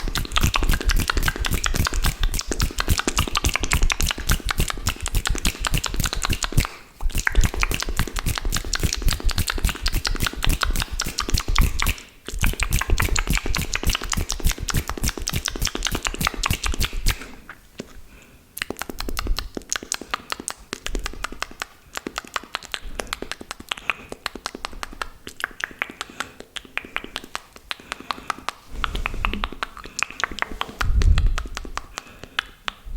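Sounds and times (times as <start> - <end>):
wet mouth clicking and smacking: 0.0 - 32.9.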